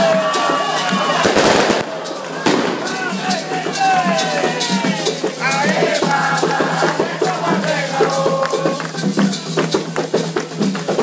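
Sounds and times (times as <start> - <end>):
shaken rattles: 0.0 - 11.0
voices singing a chant: 0.0 - 11.0.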